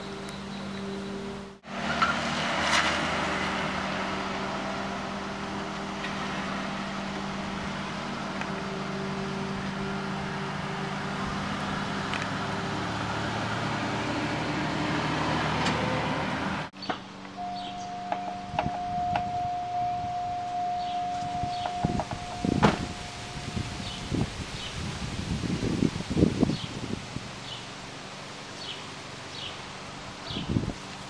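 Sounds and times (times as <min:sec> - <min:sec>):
tyre and road noise: 0:00.0 - 0:31.0.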